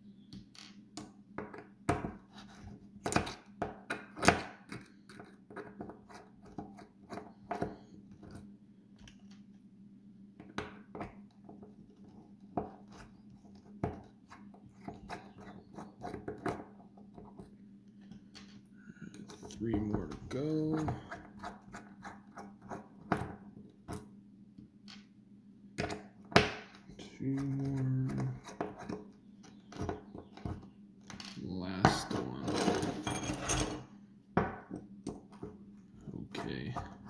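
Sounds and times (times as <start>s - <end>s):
low steady hum: 6.5s - 37.0s.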